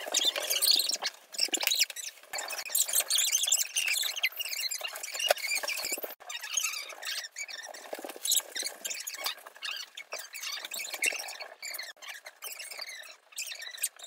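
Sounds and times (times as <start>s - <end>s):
marker squeaking on paper: 0.0s - 14.0s.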